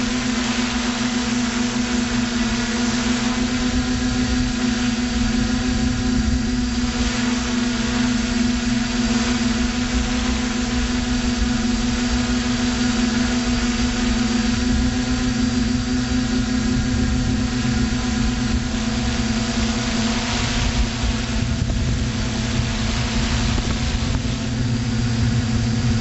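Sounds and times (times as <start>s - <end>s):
electric motors and propellers humming: 0.0s - 26.0s
wind rumbling on microphone: 0.0s - 26.0s.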